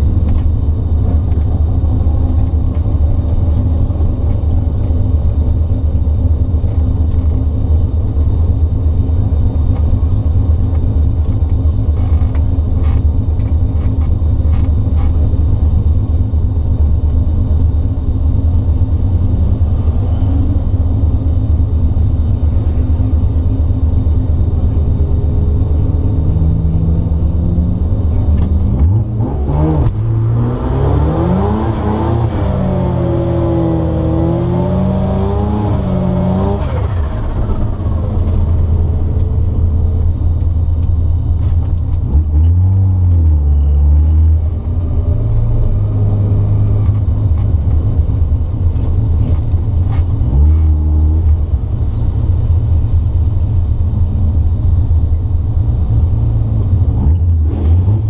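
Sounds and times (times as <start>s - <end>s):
rotary engine idling and revving: 0.0s - 58.0s.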